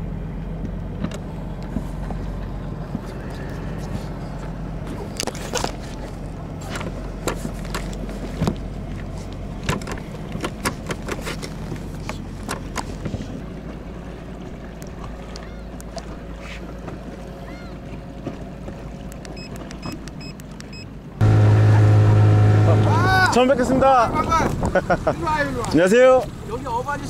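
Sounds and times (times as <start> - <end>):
outboard motor humming: 0.0 - 27.0.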